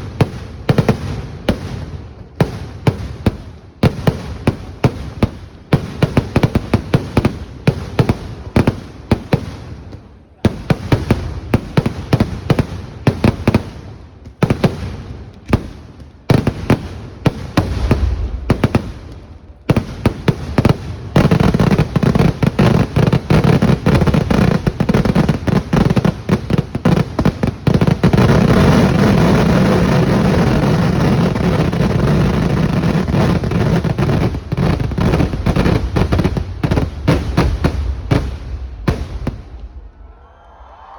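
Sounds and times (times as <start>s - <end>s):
fireworks exploding: 0.0s - 40.1s.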